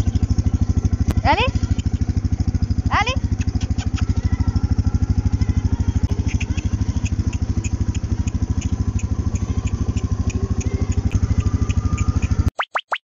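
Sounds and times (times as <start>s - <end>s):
small engine running: 0.0s - 12.5s.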